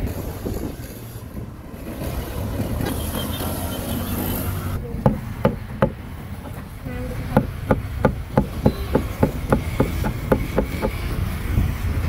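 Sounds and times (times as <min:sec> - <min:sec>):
street traffic drone: 0:00.0 - 0:12.0.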